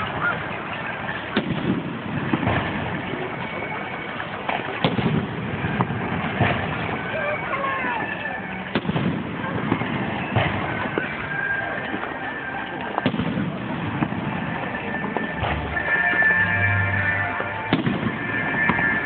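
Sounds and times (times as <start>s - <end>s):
crowd chatter: 0.0s - 19.0s
fireworks bursting: 0.0s - 19.0s.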